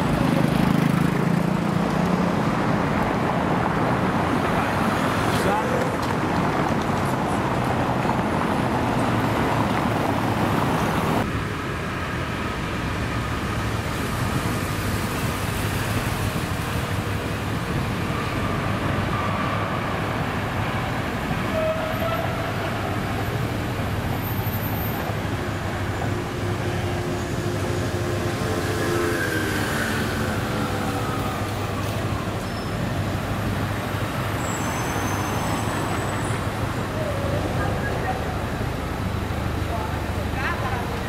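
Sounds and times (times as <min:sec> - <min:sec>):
street traffic noise: 0:00.0 - 0:41.0
tram rolling along track: 0:00.0 - 0:41.0.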